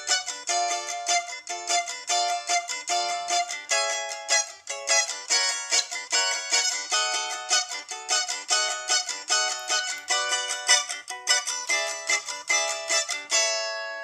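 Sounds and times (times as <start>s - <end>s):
cavaquinho strummed: 0.0s - 14.0s.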